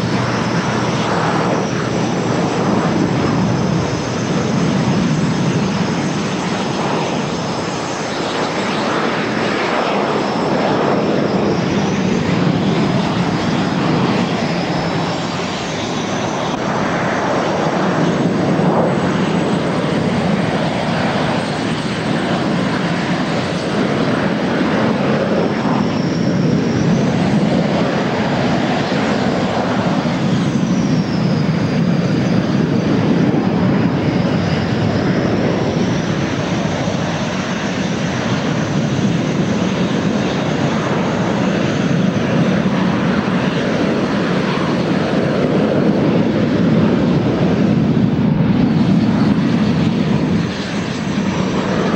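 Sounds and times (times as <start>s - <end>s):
high engine whine: 0.0s - 51.9s
jet engines taxiing: 0.0s - 51.9s.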